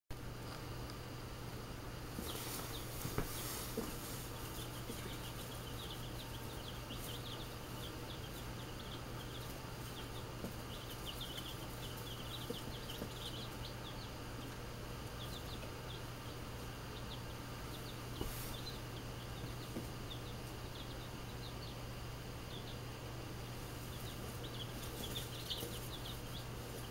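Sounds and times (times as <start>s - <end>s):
steady low hum: 0.1s - 26.9s
baby chicks peeping: 0.4s - 26.9s.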